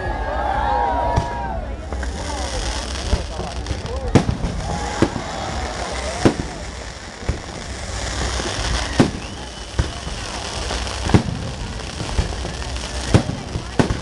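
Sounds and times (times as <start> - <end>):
crowd voices: 0.0 - 14.0
fireworks bangs: 1.1 - 14.0.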